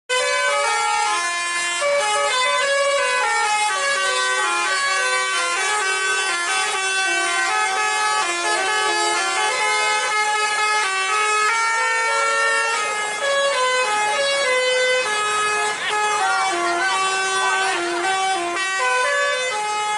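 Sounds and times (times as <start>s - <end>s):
multi-tone air horn melody: 0.1s - 19.9s.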